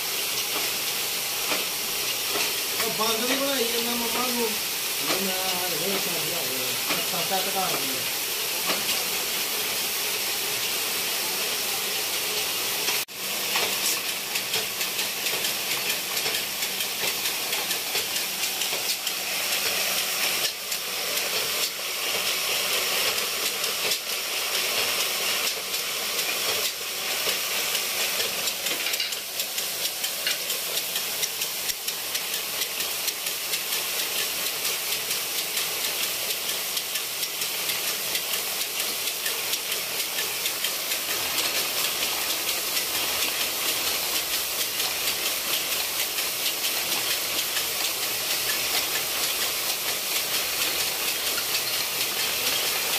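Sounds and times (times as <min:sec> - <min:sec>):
knitting machines clattering: 0:01.4 - 0:09.1, 0:12.9 - 0:52.9.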